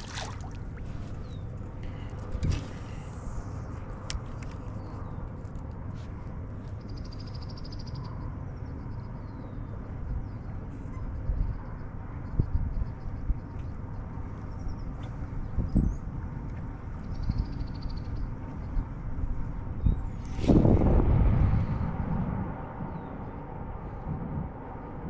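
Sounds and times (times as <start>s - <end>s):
wind rumble on microphone: 0.0s - 25.0s.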